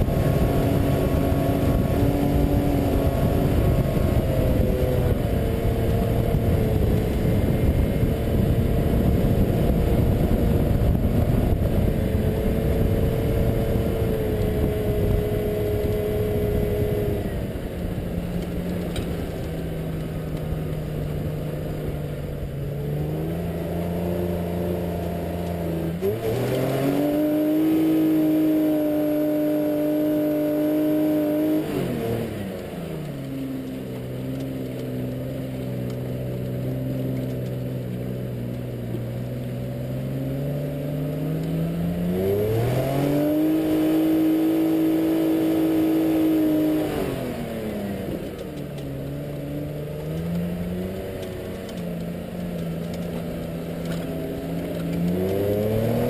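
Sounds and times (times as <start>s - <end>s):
car engine revving: 0.0s - 56.0s
tyre and road noise: 0.0s - 56.0s.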